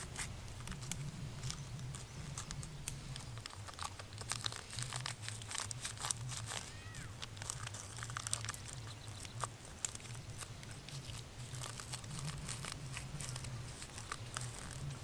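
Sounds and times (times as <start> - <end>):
low steady hum: 0.0 - 15.0
paper sachet crinkling: 0.0 - 15.0.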